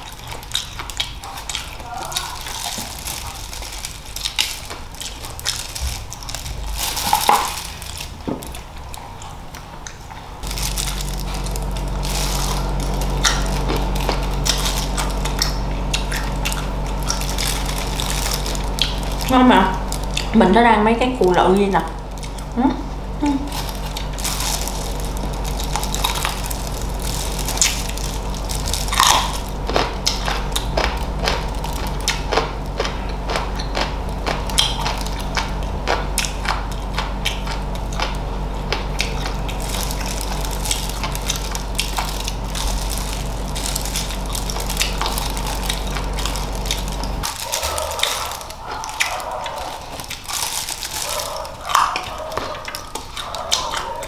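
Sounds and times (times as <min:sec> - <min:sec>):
crunching and wet chewing: 0:00.0 - 0:20.6, 0:21.2 - 0:54.0
steady low hum: 0:00.0 - 0:54.0.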